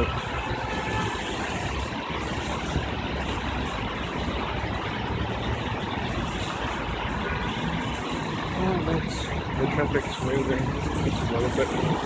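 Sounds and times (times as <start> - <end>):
traffic engines idling: 0.0 - 12.0.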